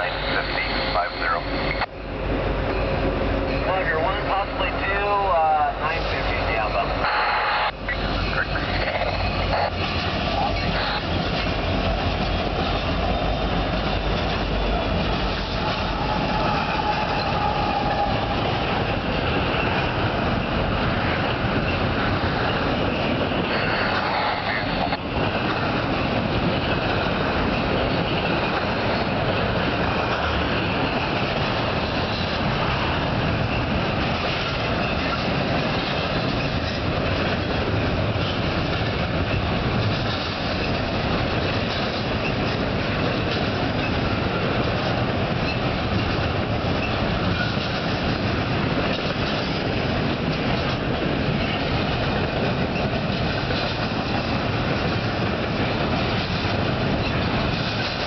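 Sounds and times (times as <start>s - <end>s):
clickety-clack over rail joints: 0.0s - 58.0s
freight train wheels on rails: 0.0s - 58.0s.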